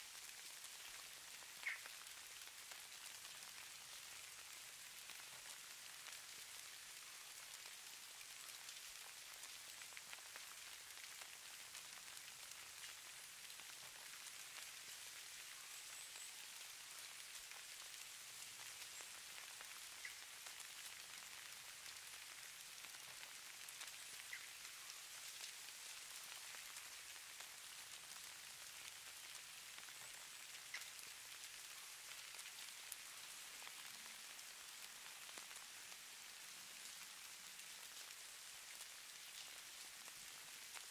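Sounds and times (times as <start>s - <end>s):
light precipitation patter: 0.0s - 40.9s.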